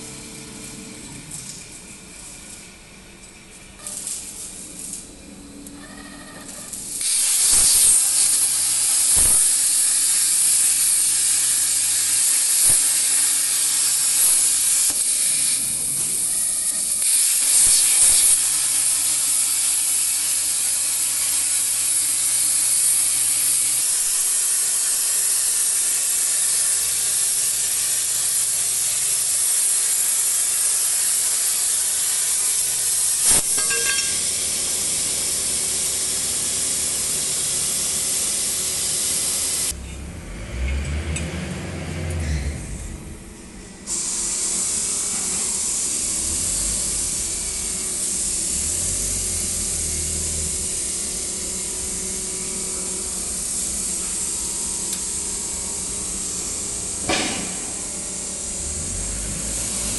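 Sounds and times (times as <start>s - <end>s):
plasma torch hissing: 3.8s - 5.4s, 6.7s - 39.8s, 43.9s - 59.9s.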